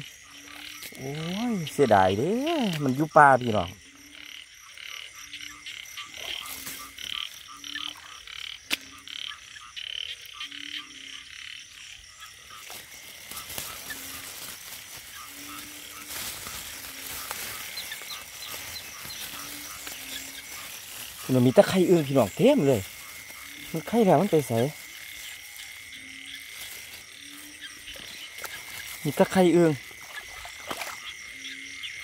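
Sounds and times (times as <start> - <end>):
frogs croaking: 0.0 - 32.0
high-pitched pulsing frog chorus: 0.0 - 32.0.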